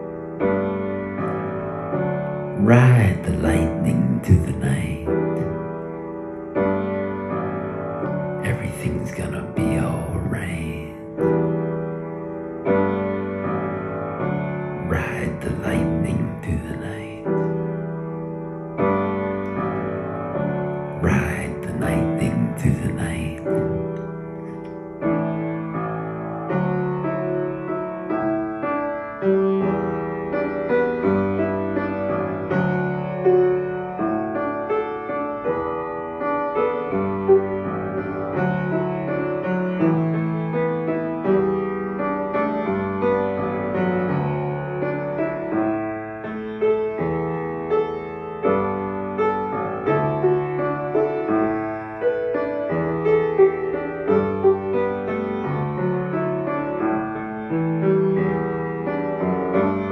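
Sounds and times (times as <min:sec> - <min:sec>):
solo piano chords: 0:00.0 - 0:59.9.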